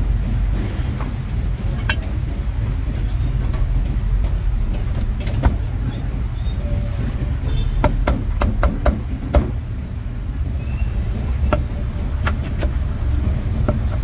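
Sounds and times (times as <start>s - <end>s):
low rumble of street traffic: 0.0s - 14.0s.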